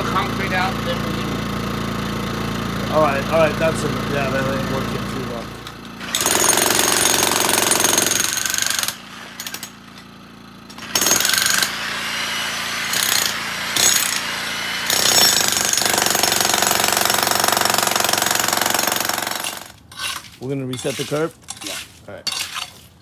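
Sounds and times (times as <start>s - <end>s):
jackhammer breaking concrete: 0.0s - 21.8s.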